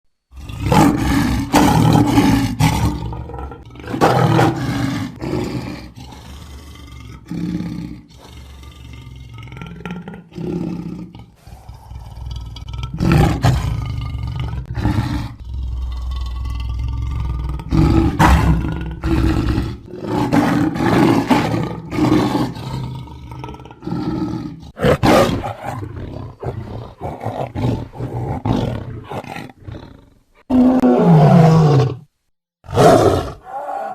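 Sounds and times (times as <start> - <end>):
big cat growling: 0.3 - 33.9
big cat roars: 0.3 - 33.9.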